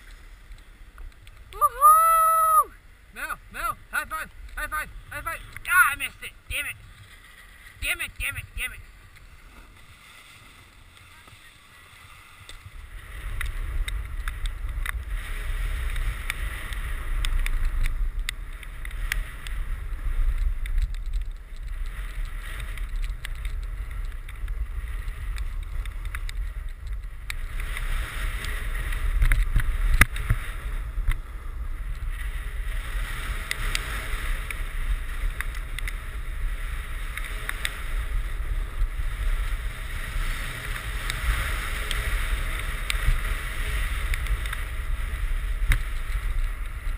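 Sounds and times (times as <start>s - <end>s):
wind rumbling on microphone: 0.0s - 46.9s
snowboard scraping over snow: 2.8s - 46.9s.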